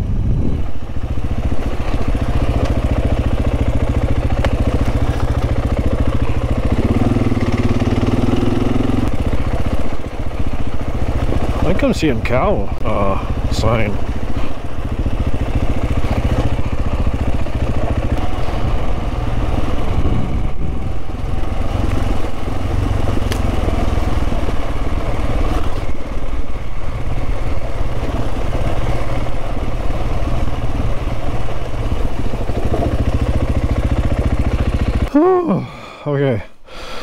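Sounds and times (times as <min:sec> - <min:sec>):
motorcycle engine running: 0:00.0 - 0:35.7.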